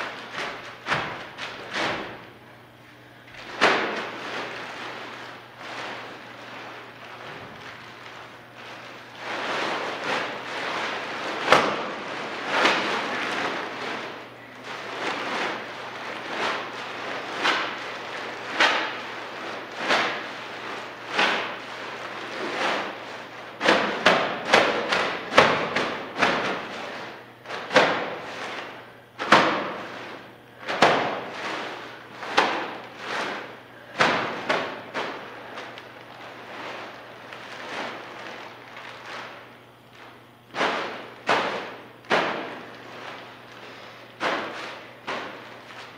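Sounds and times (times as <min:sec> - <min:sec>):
clay bags hitting concrete floor: 0:00.0 - 0:02.4, 0:03.1 - 0:45.9.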